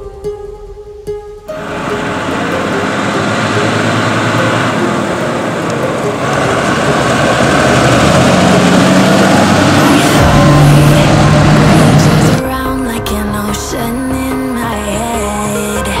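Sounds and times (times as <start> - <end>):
tractor diesel engine passing by: 1.5 - 16.0.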